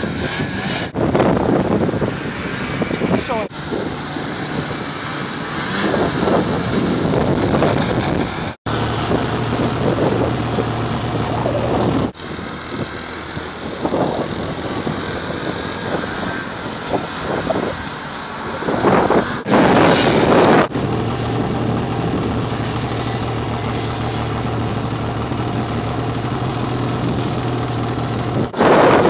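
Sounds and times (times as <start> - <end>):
snowmobile engines running: 0.0 - 29.0.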